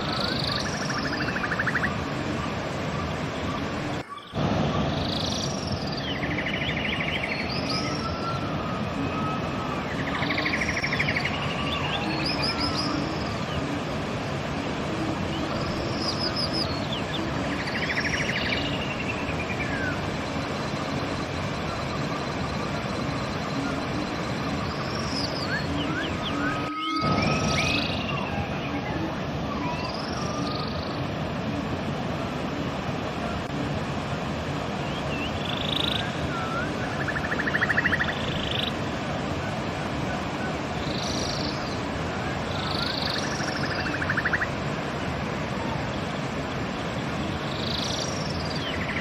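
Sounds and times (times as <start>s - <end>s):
songbird singing: 0.0s - 31.5s, 34.5s - 49.0s
river water rushing: 0.0s - 49.0s.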